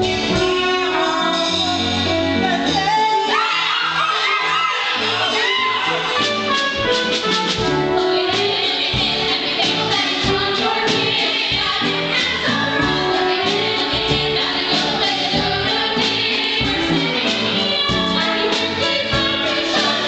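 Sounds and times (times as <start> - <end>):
pit band playing: 0.0 - 20.0
chorus singing: 0.3 - 20.0.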